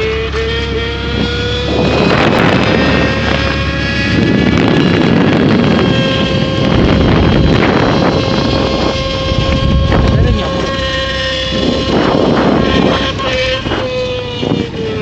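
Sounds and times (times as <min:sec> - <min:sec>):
motor scooter engine running: 0:00.0 - 0:15.0
wind buffeting microphone: 0:00.0 - 0:15.0.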